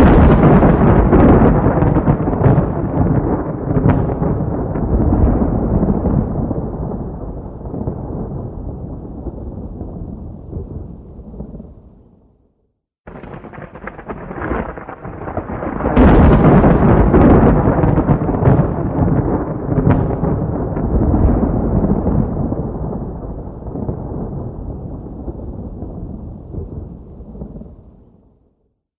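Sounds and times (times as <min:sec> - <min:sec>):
deep thunder rumble: 0:00.0 - 0:12.2, 0:13.1 - 0:28.4.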